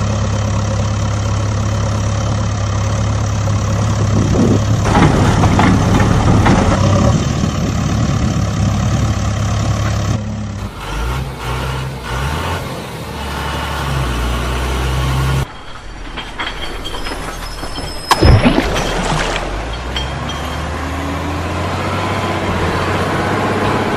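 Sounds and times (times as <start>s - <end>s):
heavy truck engine running: 0.0s - 23.9s.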